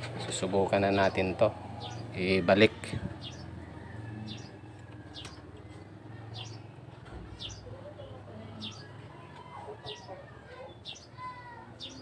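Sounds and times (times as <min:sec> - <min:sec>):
bird chirping: 0:00.8 - 0:12.0.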